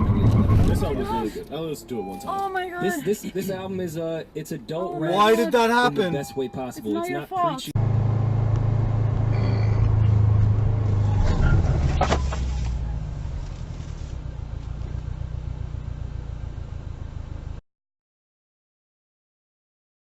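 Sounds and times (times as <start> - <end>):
car engine and road noise: 0.0 - 17.6.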